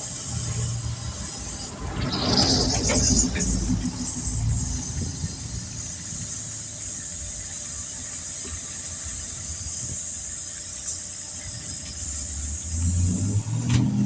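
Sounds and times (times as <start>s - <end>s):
compressed air hissing from hose: 0.0s - 2.0s, 3.3s - 14.0s.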